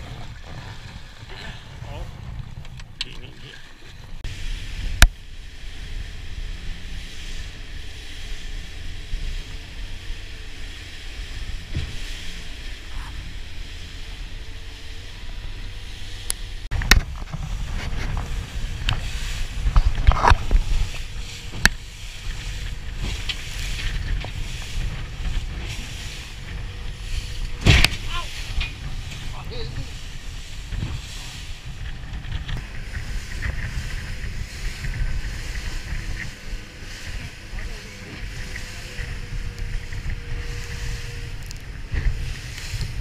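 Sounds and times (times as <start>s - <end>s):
boat engine rumble: 0.0s - 43.0s
water rushing past hull: 0.0s - 43.0s
wind: 0.0s - 43.0s.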